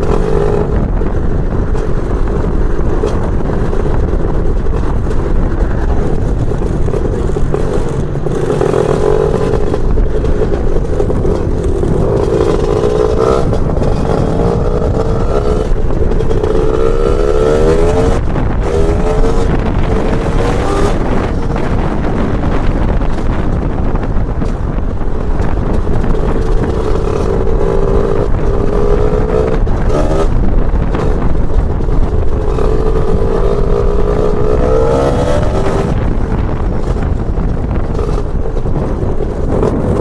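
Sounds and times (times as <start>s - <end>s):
scooter two-stroke engine accelerating: 0.0s - 40.0s.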